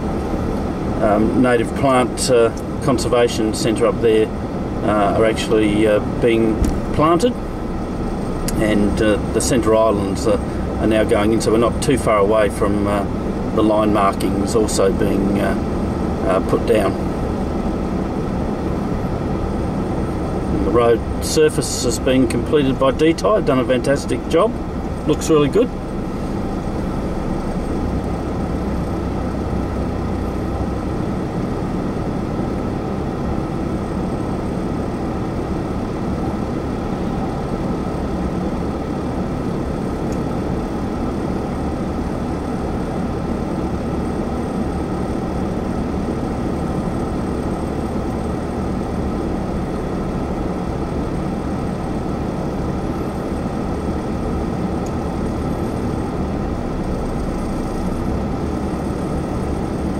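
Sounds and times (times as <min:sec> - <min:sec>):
car engine and tyre noise: 0:00.0 - 0:59.9.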